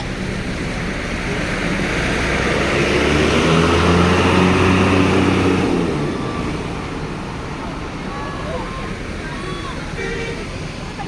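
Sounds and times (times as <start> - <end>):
bus engine approaching: 0.0 - 11.0
tyre noise roar: 0.0 - 11.0.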